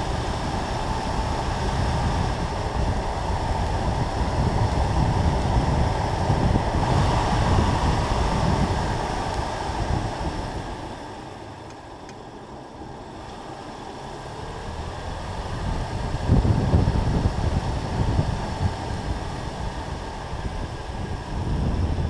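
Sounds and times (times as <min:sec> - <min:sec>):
wind noise: 0:00.0 - 0:11.2, 0:14.3 - 0:22.0
car engine accelerating: 0:00.0 - 0:22.0.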